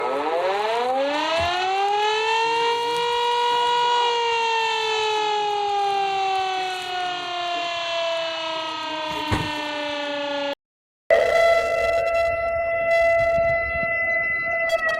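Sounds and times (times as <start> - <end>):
warning siren winding: 0.0 - 14.9.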